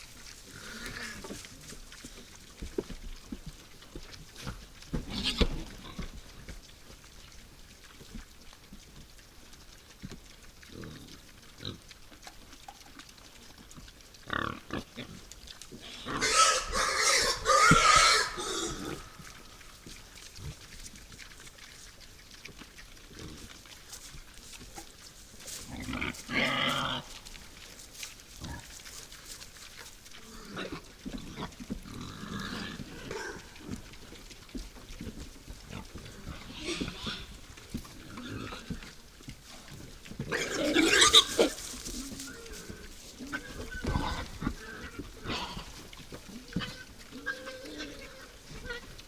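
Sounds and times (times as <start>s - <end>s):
wild boar grunting and squealing: 0.0s - 6.5s, 13.9s - 22.0s, 22.6s - 49.0s
rustles: 0.0s - 49.0s.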